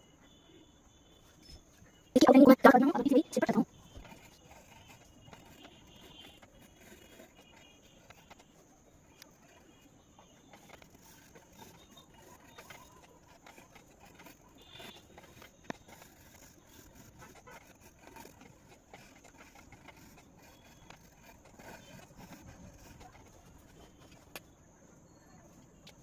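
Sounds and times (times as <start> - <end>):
pencil scratching on paper: 1.2 - 24.4.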